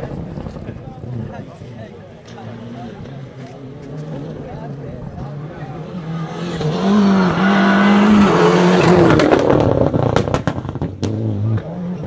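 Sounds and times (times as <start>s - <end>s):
rally car engine revving hard: 2.2s - 12.0s.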